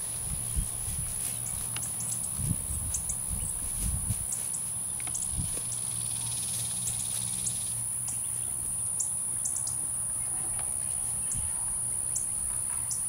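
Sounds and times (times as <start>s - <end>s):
crickets droning: 0.0s - 13.0s
grass rustling: 0.0s - 13.0s.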